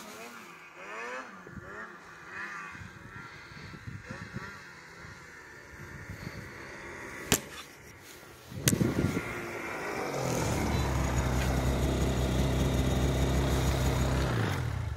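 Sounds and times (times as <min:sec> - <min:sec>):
snowmobile engine: 0:00.0 - 0:14.9.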